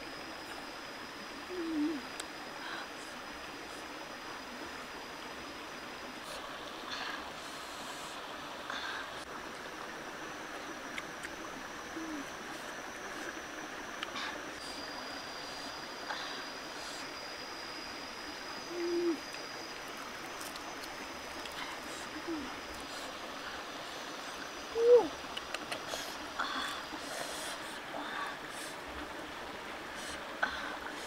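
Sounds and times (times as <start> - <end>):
rocky stream rushing: 0.0 - 31.0.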